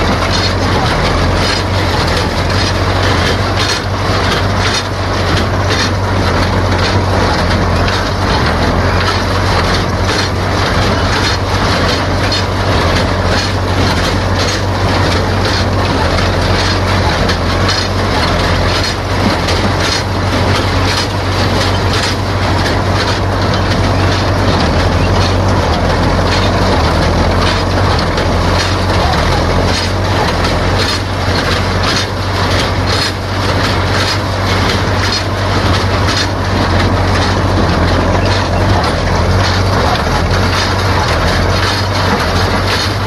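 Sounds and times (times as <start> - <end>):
baler mechanism clattering: 0.0 - 43.0
tractor engine running: 0.0 - 43.0.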